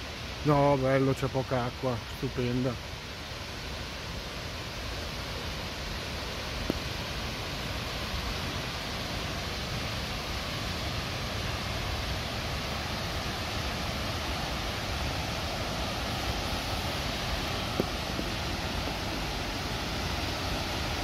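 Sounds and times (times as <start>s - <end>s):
waterfall rushing water: 0.0s - 21.0s.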